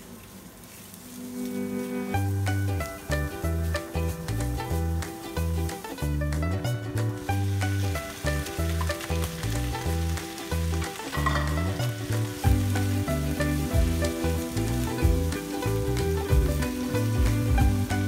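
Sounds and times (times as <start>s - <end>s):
vegetables sizzling in hot oil: 0.0s - 18.0s
background music with bassline: 1.6s - 18.0s.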